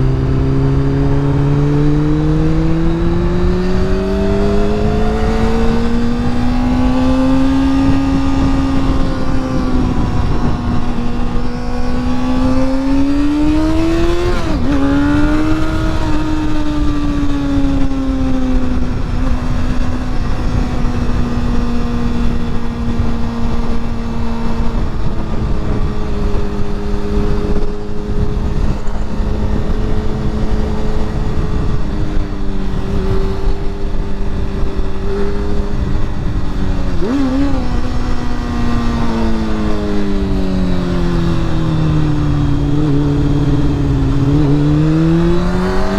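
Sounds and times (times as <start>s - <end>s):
motorcycle engine revving: 0.0s - 45.9s
wind rushing over microphone: 0.0s - 45.9s.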